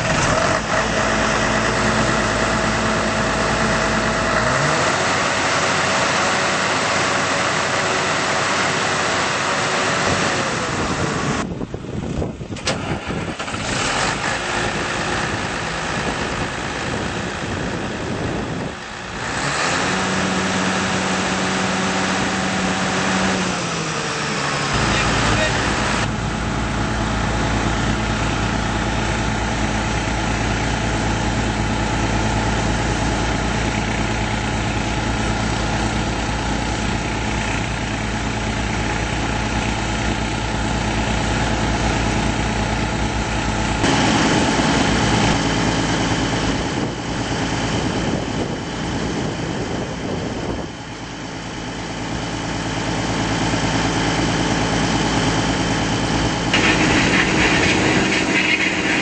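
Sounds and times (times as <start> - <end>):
diesel engine idling: 0.0 - 59.0
rough machine running: 0.0 - 59.0.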